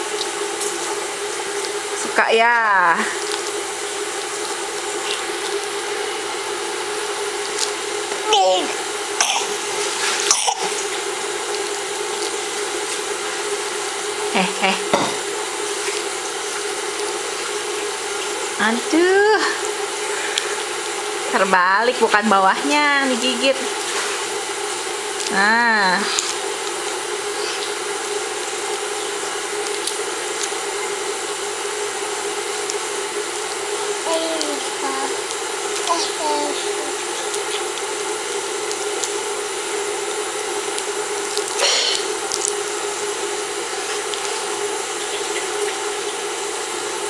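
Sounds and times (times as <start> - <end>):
background hum and hiss: 0.0 - 47.0.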